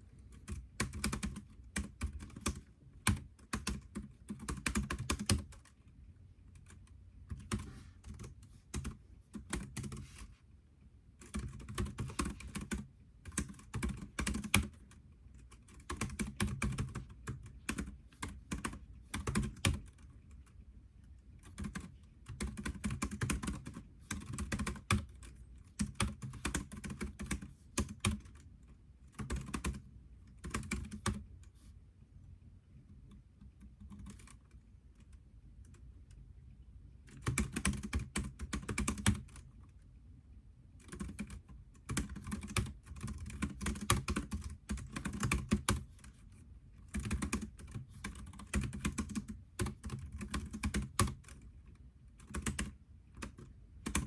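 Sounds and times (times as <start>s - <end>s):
typing on computer keyboard: 0.3s - 5.8s, 6.6s - 10.3s, 11.2s - 20.5s, 21.4s - 28.5s, 29.1s - 31.3s, 33.0s - 35.8s, 37.1s - 39.5s, 40.8s - 54.0s.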